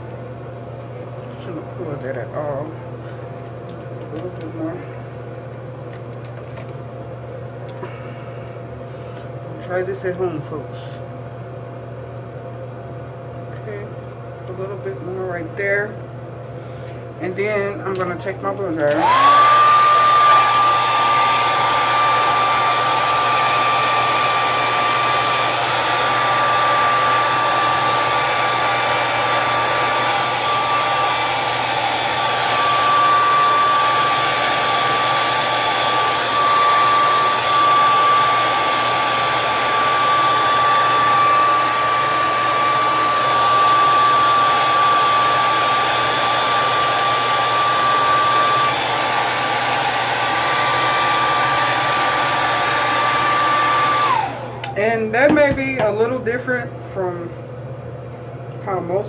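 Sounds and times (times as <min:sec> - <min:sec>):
hair dryer running: 0:00.0 - 0:16.4, 0:17.0 - 0:56.7.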